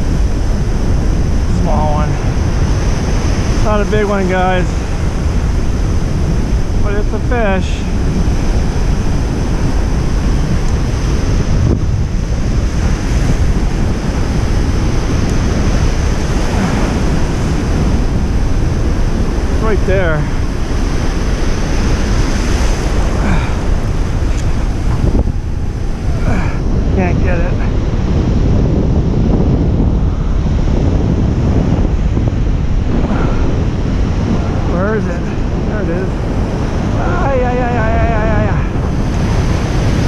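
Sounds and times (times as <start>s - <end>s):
surf breaking: 0.0s - 40.0s
wind buffeting microphone: 0.0s - 40.0s.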